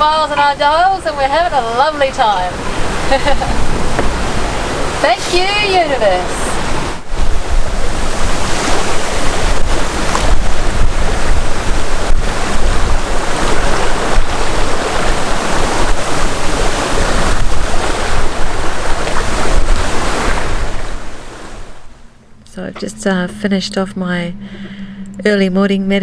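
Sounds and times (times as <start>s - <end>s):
rushing water: 0.0s - 23.3s
wind buffeting microphone: 0.0s - 26.0s.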